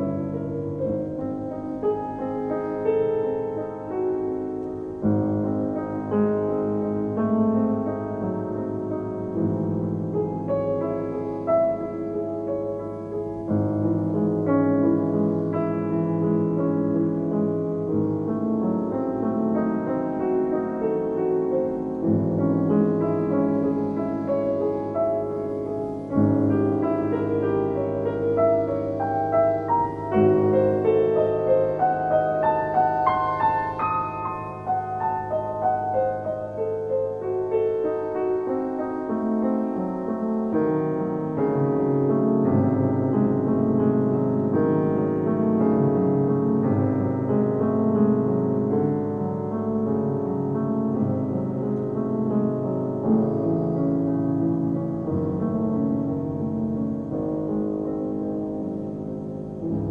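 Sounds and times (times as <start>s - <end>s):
solo classical piano: 0.0s - 59.9s.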